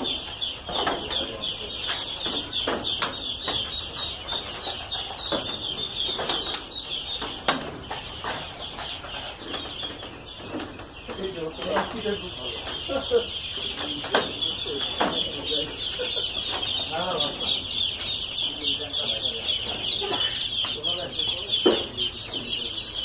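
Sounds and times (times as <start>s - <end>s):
ducklings peeping: 0.0s - 23.0s.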